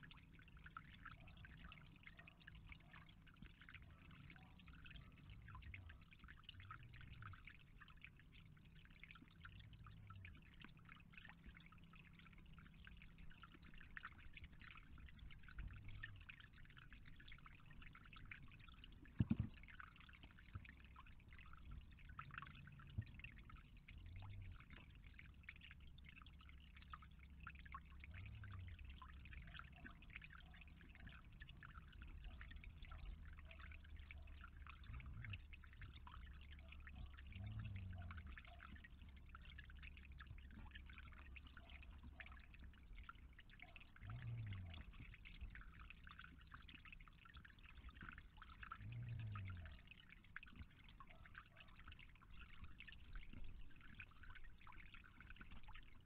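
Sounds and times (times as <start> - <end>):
water trickling into pond: 0.0 - 56.0.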